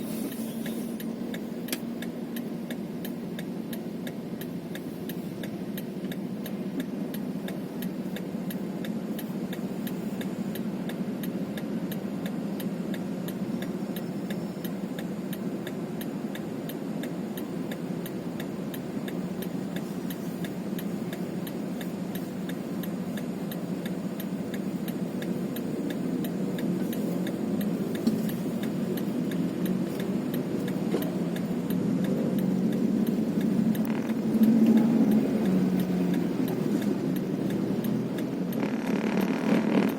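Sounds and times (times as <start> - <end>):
vehicle engine running: 0.0 - 39.9
fast even ticking: 1.0 - 39.9.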